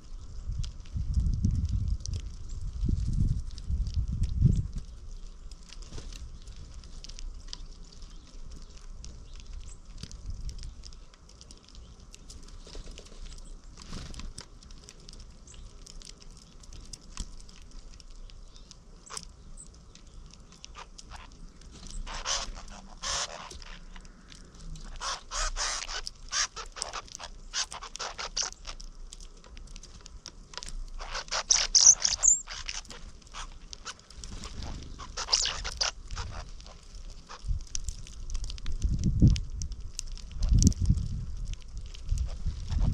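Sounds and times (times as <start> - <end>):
faint steady background noise: 0.0 - 42.9
small birds chirping: 3.8 - 38.6.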